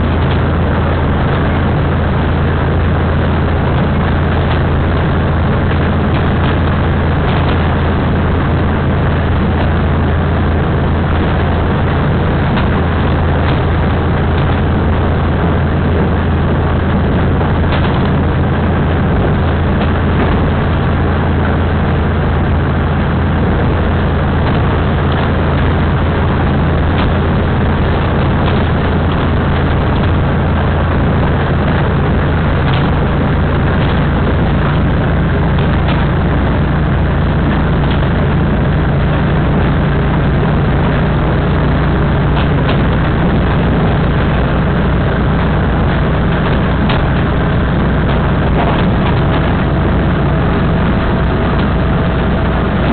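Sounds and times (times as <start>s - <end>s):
diesel engine drone: 0.0s - 52.9s
train running noise: 0.0s - 52.9s.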